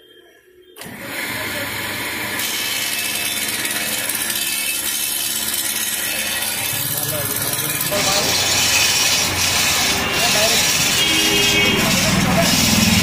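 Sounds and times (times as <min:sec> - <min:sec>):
woodworking machine cutting wood: 0:00.8 - 0:13.0.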